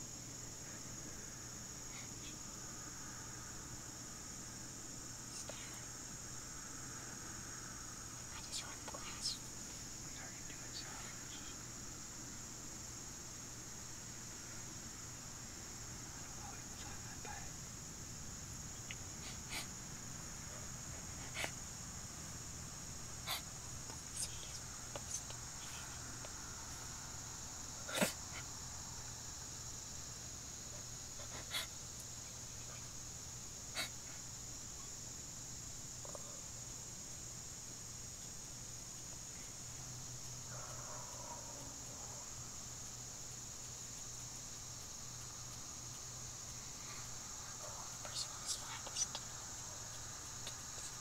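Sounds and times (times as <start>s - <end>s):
insects chorus: 0.0s - 51.0s.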